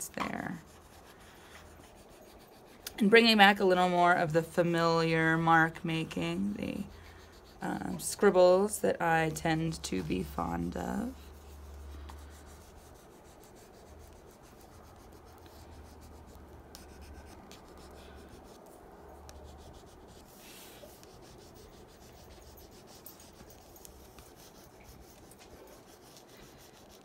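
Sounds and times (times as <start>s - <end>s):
graphite stick scratching on paper: 0.1s - 3.8s, 6.0s - 8.6s, 9.2s - 27.0s.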